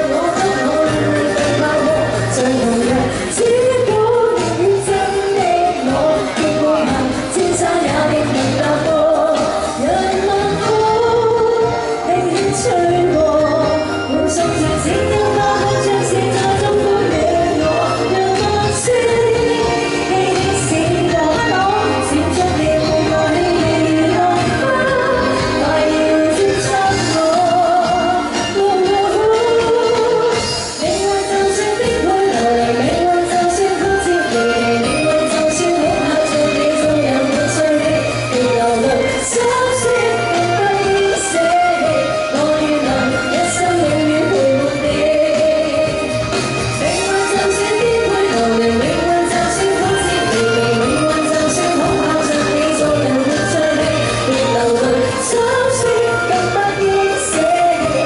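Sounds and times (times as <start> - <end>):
backing music over speakers: 0.0 - 58.0
woman singing into microphone: 0.0 - 58.0.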